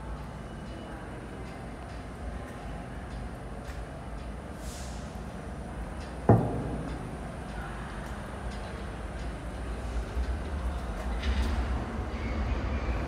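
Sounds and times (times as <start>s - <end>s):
subway train pulling out: 0.0s - 13.0s.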